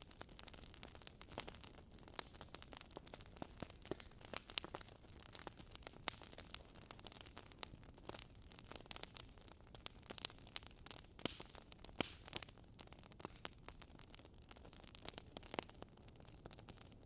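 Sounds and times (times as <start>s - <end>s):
faint steady hiss: 0.0s - 17.0s
wood fire crackling: 0.0s - 17.0s.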